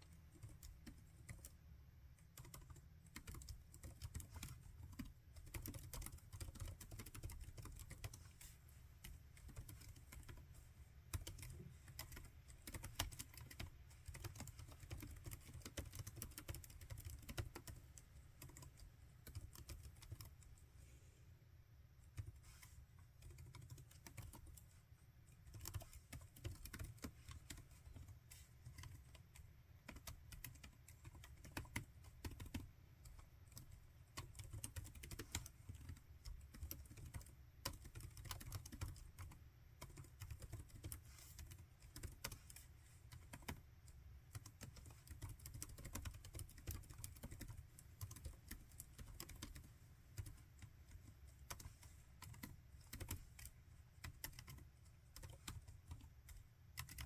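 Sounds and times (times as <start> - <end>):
laptop keyboard typing: 0.0 - 20.6, 22.0 - 57.0.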